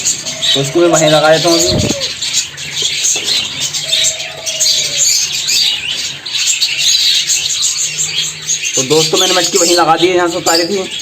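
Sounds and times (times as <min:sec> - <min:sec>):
finches chirping: 0:00.0 - 0:11.0.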